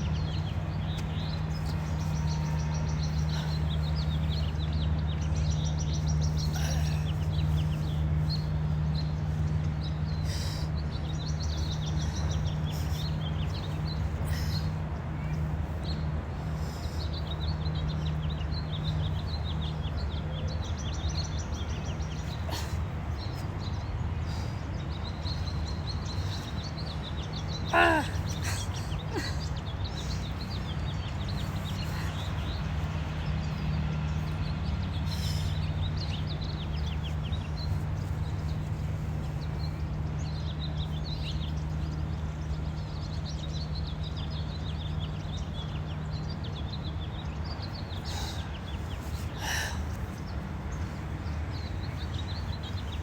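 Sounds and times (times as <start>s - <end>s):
small birds chirping: 0.0s - 53.0s
steady low hum: 0.0s - 53.0s.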